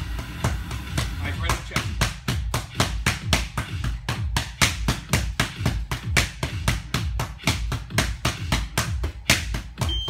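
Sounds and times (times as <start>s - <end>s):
boxing gloves slapping mitts: 0.0s - 10.0s.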